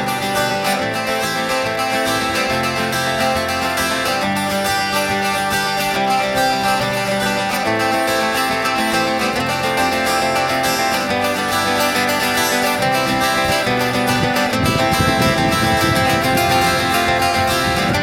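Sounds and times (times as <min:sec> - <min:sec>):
country music with acoustic guitar: 0:00.0 - 0:18.0.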